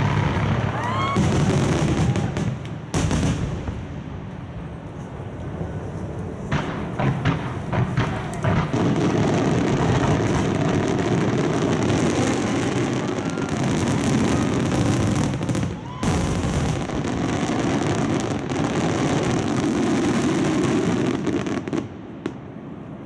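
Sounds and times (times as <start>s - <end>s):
fireworks exploding: 0.0s - 22.8s.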